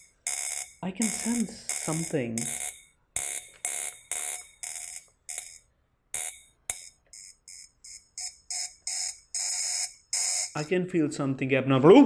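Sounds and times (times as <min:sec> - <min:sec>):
rapid pulsing beep: 0:00.0 - 0:05.6, 0:06.2 - 0:10.7.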